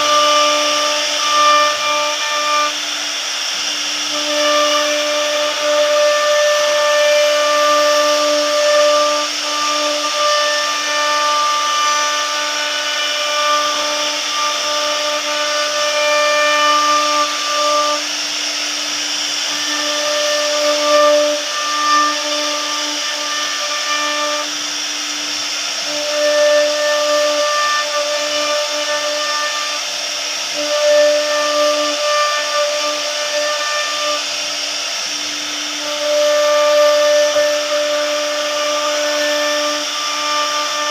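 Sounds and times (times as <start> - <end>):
router bit cutting whine: 0.0 - 40.9
router spindle high-pitched whir: 0.0 - 40.9.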